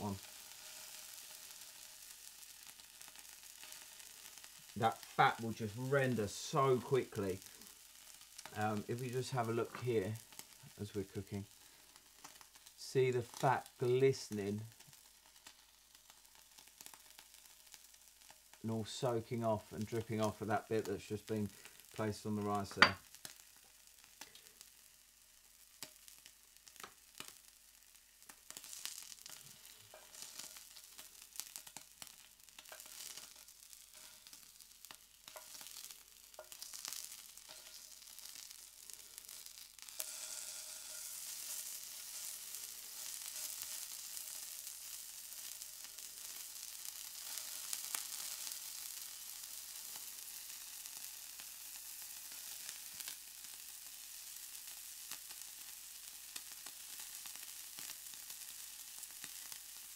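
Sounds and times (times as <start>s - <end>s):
fat crackling and popping: 0.0s - 59.9s
meat sizzling on a hot plate: 0.0s - 59.9s.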